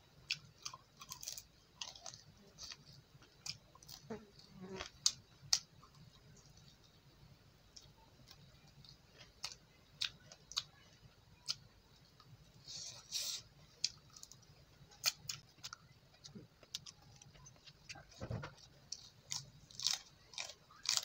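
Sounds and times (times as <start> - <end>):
person chewing food: 0.2 - 6.9, 7.8 - 10.8, 11.4 - 21.0.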